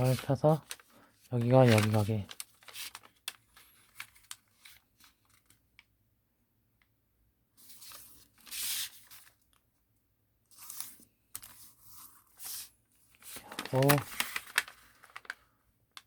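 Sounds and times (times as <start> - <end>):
paper crinkling: 0.0 - 5.9, 7.6 - 9.6, 10.5 - 16.0.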